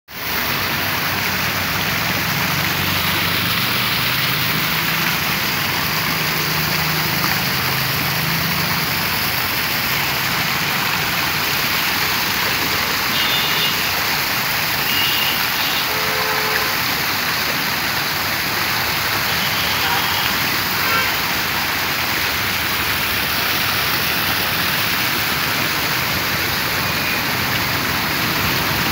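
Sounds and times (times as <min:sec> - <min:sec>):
fountain water splashing into pool: 0:00.1 - 0:28.9.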